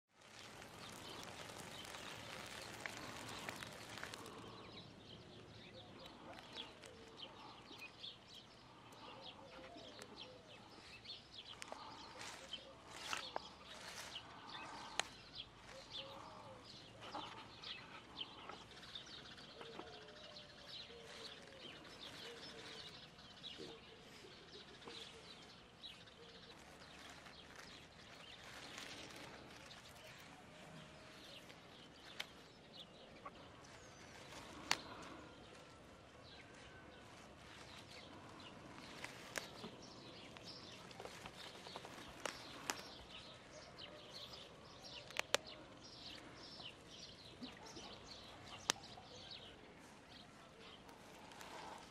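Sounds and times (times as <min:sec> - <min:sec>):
small birds chirping: 0:00.1 - 0:51.9.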